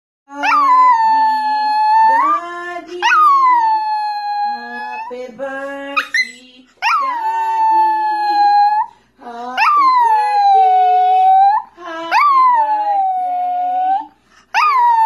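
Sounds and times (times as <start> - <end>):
person singing: 0.3 - 13.2.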